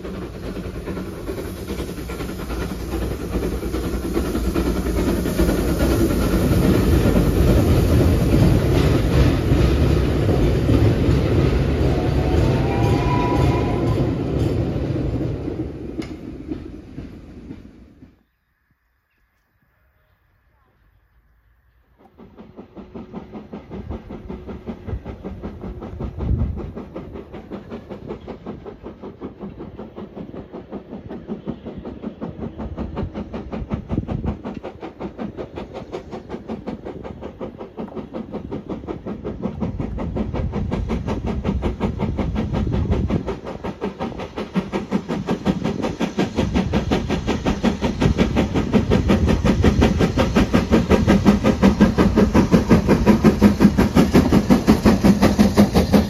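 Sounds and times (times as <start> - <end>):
steam locomotive exhaust beating: 0.0 - 56.0.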